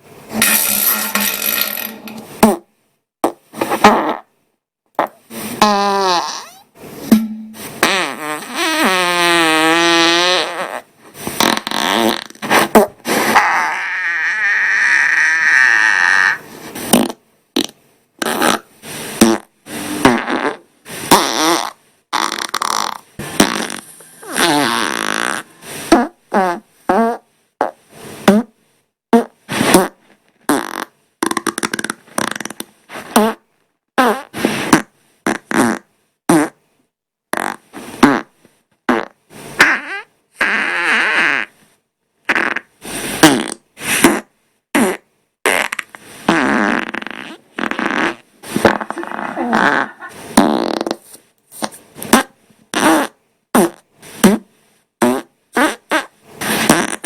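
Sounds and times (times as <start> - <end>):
person farting: 0.3 - 4.3, 5.0 - 28.5, 29.1 - 36.6, 37.3 - 41.6, 42.3 - 57.0.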